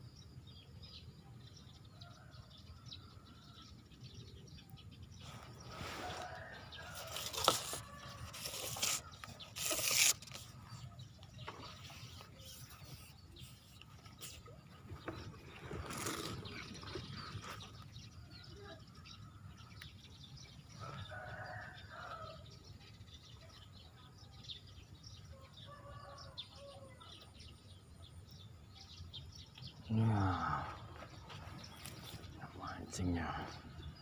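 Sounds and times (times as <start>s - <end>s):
outdoor ambience: 0.0s - 34.0s.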